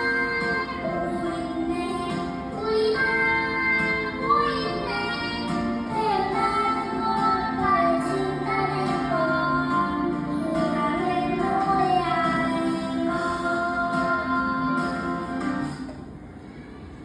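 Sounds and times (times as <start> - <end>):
child singing: 0.0 - 15.3
recorded backing track: 0.0 - 17.0.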